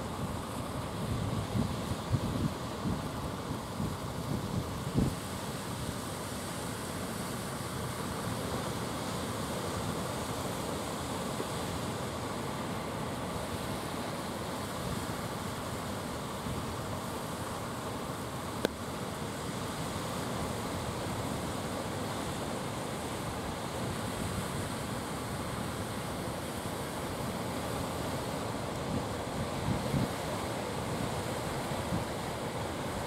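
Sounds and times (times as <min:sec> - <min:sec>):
rough surf: 0:00.0 - 0:33.0.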